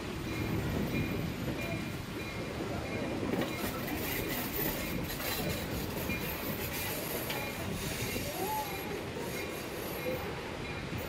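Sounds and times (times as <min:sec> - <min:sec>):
train car running on track: 0:00.0 - 0:11.0.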